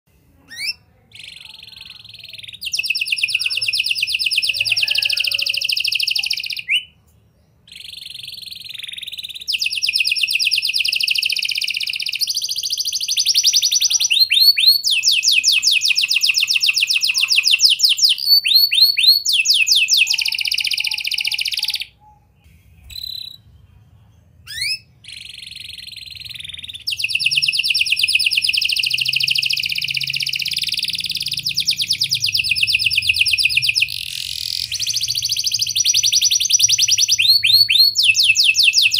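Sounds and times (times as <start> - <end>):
canary singing trills: 0.4 - 38.9.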